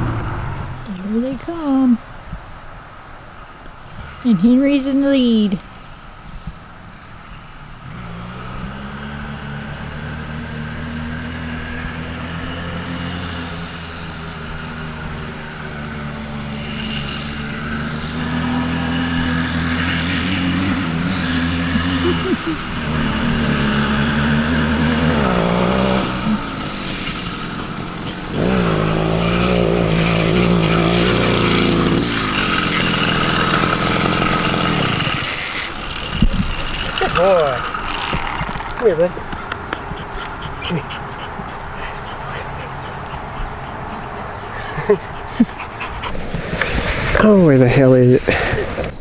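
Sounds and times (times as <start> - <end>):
two-stroke engine revving: 0.0 - 2.0, 3.9 - 5.6, 7.6 - 49.0.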